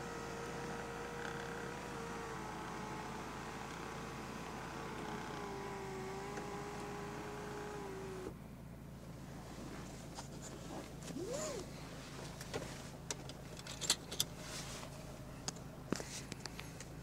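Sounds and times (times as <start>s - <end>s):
diesel engine idling hum: 0.0s - 17.0s.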